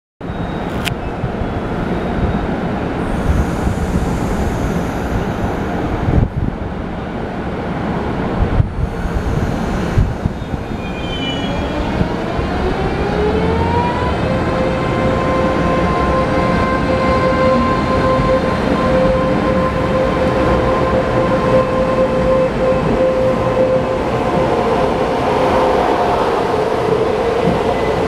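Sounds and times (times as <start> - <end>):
train rumbling: 0.3 - 28.0.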